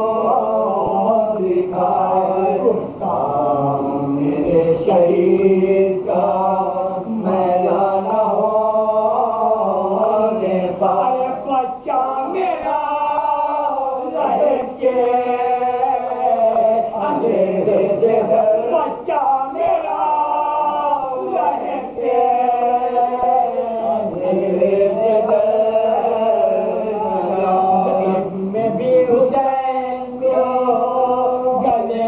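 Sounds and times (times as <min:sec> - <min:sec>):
men singing without instruments: 0:00.0 - 0:32.0.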